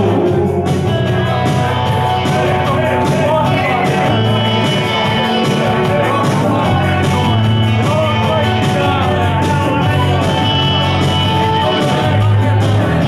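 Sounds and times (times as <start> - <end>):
electric bass: 0.0 - 13.0
electric guitar: 0.0 - 13.0.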